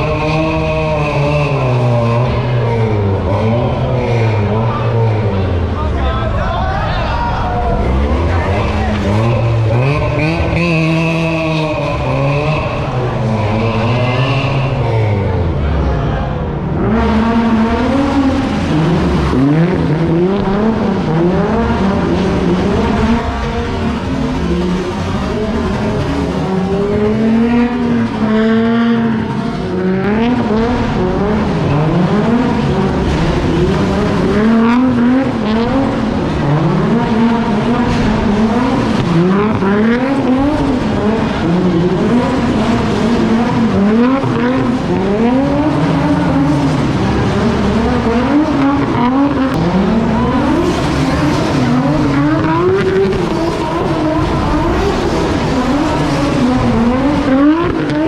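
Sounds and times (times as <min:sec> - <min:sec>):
car engine revving hard: 0:00.0 - 0:06.4, 0:07.2 - 0:58.0.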